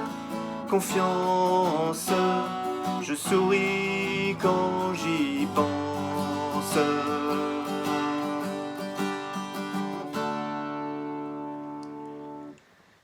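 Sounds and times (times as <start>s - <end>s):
acoustic guitar playing: 0.0s - 12.6s.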